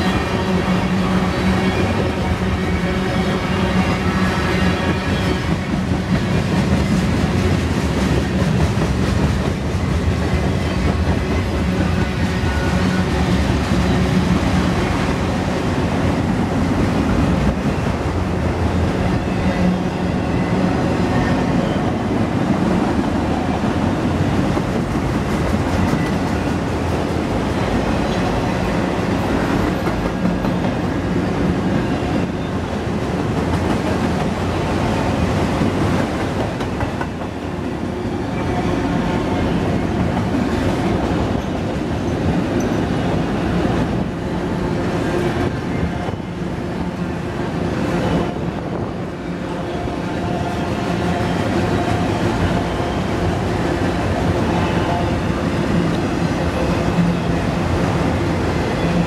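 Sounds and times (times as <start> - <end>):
train wheels rolling on rails: 0.0 - 59.0.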